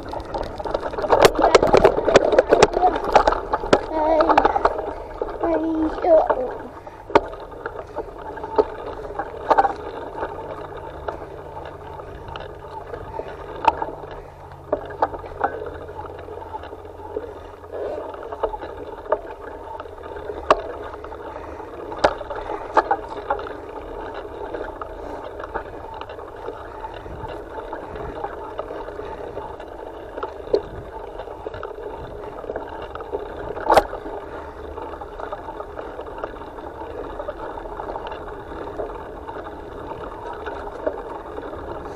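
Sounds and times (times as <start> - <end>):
knocks and rattles over bumps: 0.0 - 41.9.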